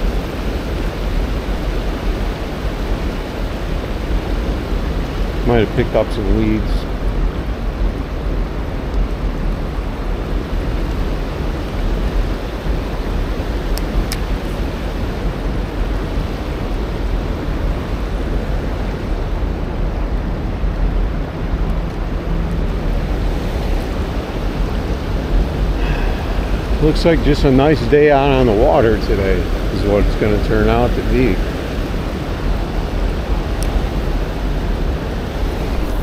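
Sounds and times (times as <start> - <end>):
white-water rapids rushing: 0.0 - 36.0.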